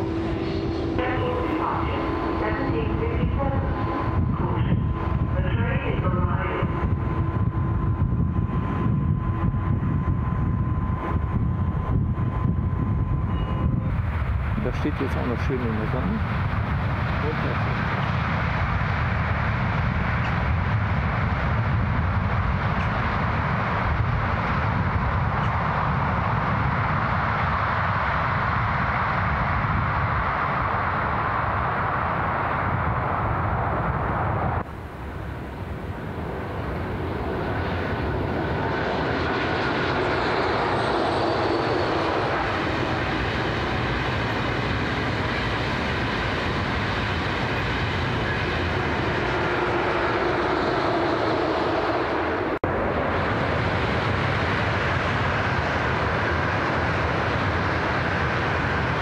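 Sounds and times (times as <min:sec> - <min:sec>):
high-speed trains passing: 0:00.0 - 0:59.0.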